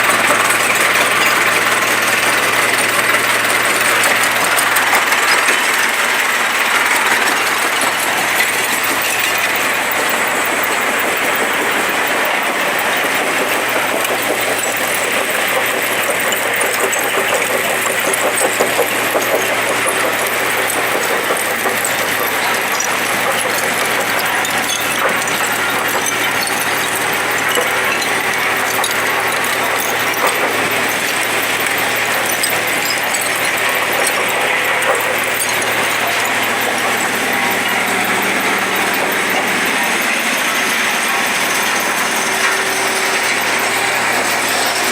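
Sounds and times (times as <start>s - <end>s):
recycling machinery engine: 0.0s - 44.9s
small knocks and clatter: 0.0s - 44.9s.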